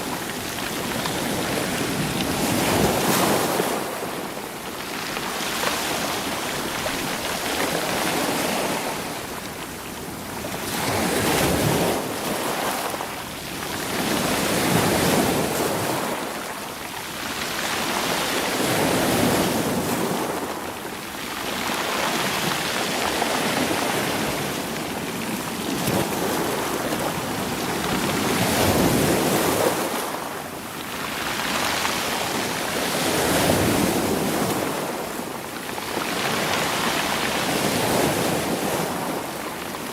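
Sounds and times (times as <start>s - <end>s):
waves rolling stones on shore: 0.0s - 16.4s, 17.2s - 39.9s.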